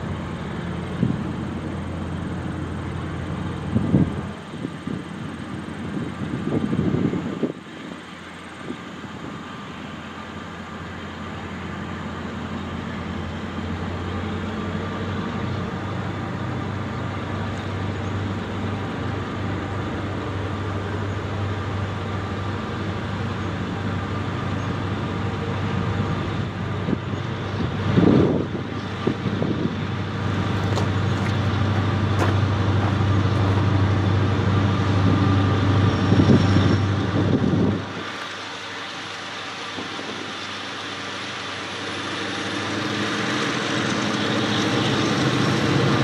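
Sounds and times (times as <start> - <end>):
diesel train engine hum: 0.0 - 46.0
train rumbles: 0.0 - 46.0.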